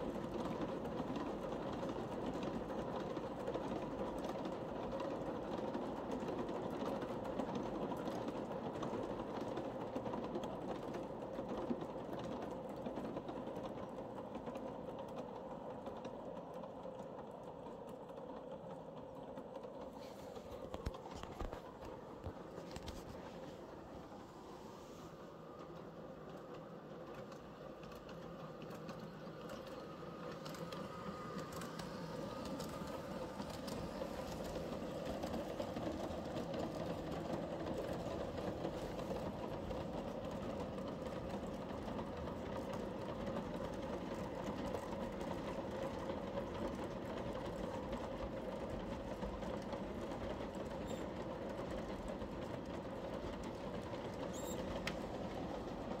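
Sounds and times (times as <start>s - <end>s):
light clicks from rails: 0.0s - 56.0s
model train motor and wheel hum: 0.0s - 56.0s.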